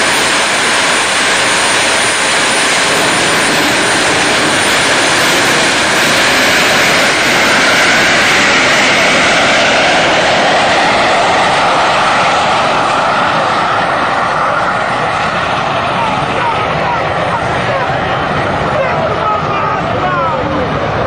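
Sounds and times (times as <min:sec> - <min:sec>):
jet engine running loud: 0:00.0 - 0:21.0.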